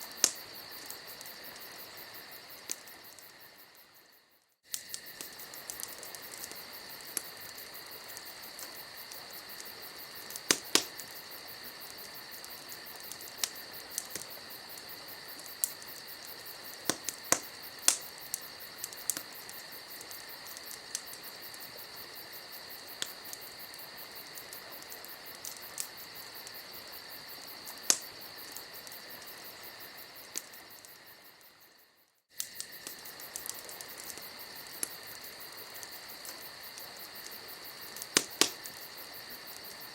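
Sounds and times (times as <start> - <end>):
wood fire crackling and popping: 0.0 - 4.1, 4.7 - 31.6, 32.3 - 39.9
crickets chirping: 0.0 - 39.9.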